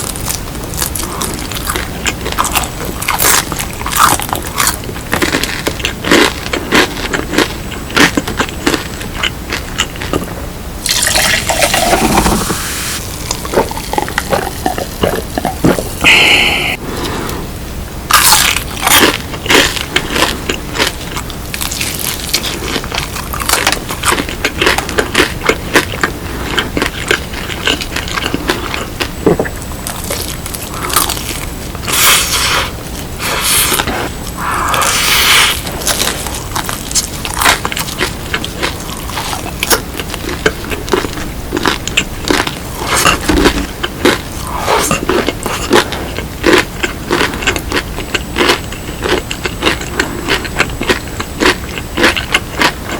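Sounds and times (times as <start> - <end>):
crunching fried chicken: 0.0 - 16.5, 18.1 - 52.9.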